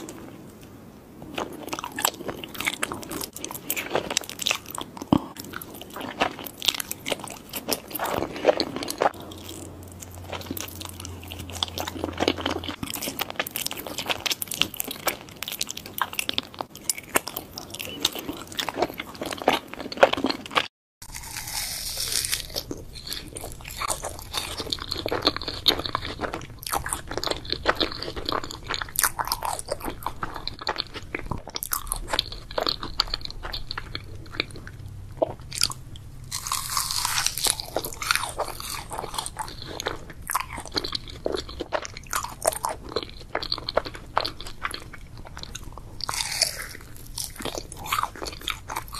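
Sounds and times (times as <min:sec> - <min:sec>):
chewing with mouth clicks: 0:01.3 - 0:48.9.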